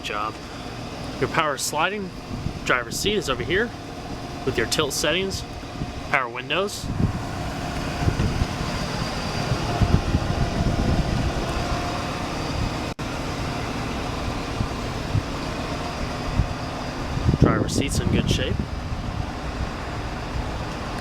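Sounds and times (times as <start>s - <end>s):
car engine idling: 0.2s - 21.0s.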